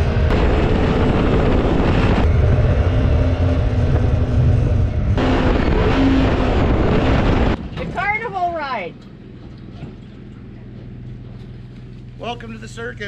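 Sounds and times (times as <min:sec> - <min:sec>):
jet boat engine running: 0:00.0 - 0:13.0.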